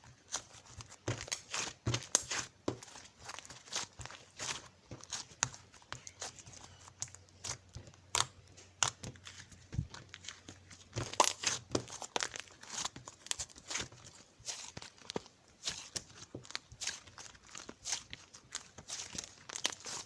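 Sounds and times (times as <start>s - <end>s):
paper and plastic crinkling: 0.0s - 20.0s.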